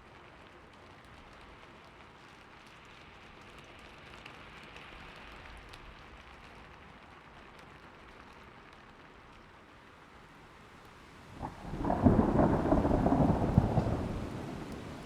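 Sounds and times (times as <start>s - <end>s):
sharp raindrop ticks: 0.0s - 9.5s, 10.8s - 15.0s
steady rain falling: 0.0s - 15.0s.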